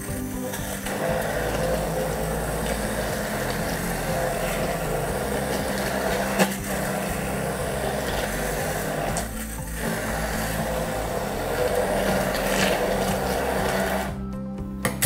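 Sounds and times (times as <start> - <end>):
immersion blender running: 0.0 - 14.4.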